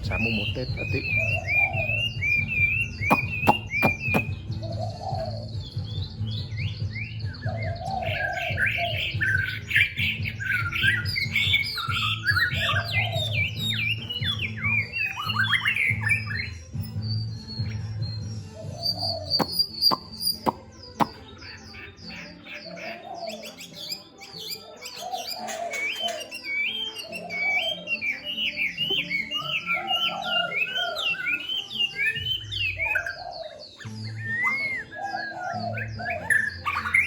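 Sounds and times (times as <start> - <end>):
background music: 0.0 - 37.0
songbird singing: 0.0 - 37.0.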